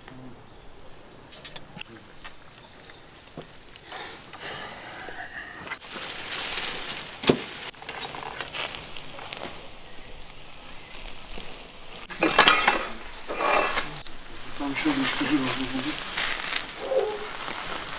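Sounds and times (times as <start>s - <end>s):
charcoal grill sizzling: 2.0s - 17.9s.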